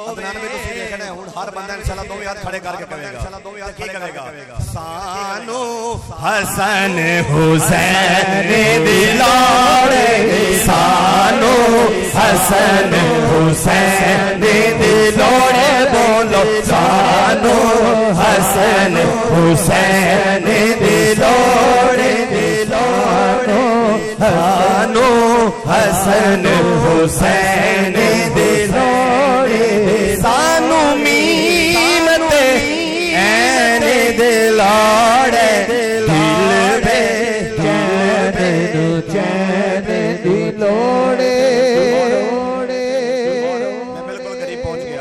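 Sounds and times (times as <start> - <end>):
male voice chanting: 0.0 - 45.0.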